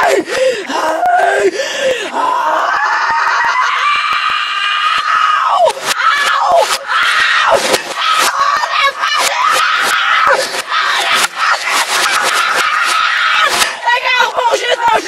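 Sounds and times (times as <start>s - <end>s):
boy screaming played backwards: 2.4s - 15.0s.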